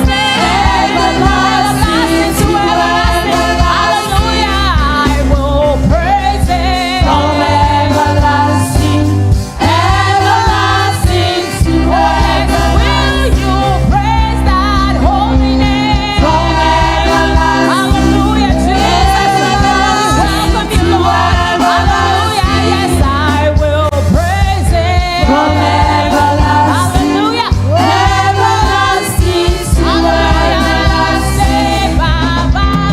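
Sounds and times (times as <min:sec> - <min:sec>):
band with steady bass: 0:00.0 - 0:32.9
choir singing gospel song: 0:00.0 - 0:32.9.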